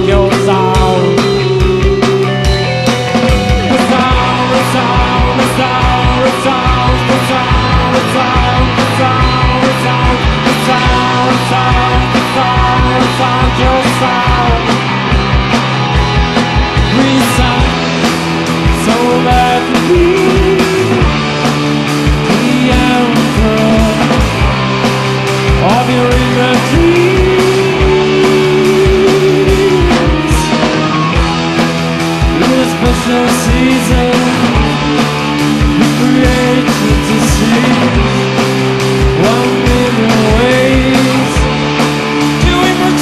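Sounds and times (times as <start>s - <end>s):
rock band playing: 0.0s - 43.0s
steady drum beat: 0.0s - 43.0s.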